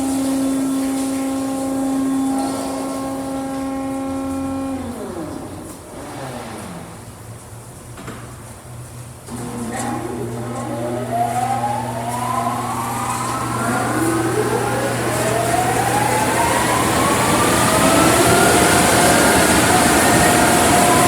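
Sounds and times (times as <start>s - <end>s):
dryer blowers whining: 0.0s - 21.0s.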